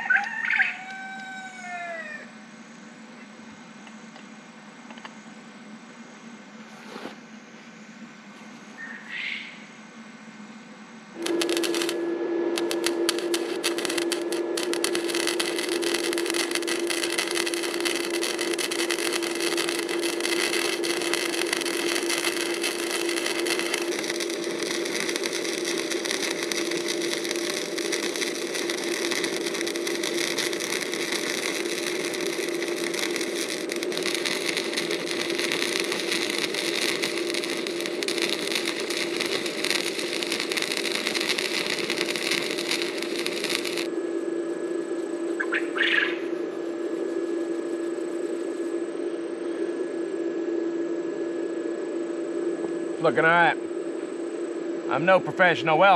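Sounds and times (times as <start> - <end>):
welding arc crackling sizzle: 0.0 - 5.2, 11.1 - 49.7, 54.2 - 55.9
welder hum: 0.0 - 55.9.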